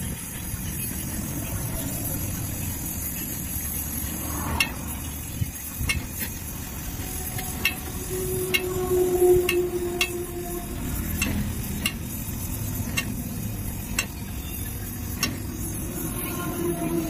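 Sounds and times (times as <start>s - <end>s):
welding torch flame hissing: 0.0s - 17.0s.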